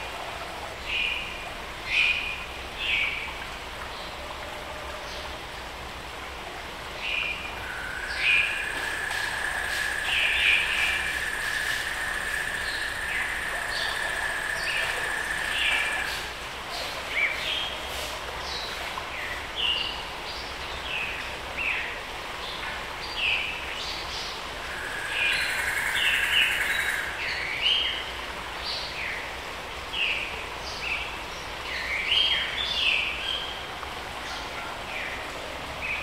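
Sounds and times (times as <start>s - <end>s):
background hiss: 5.5s - 36.0s.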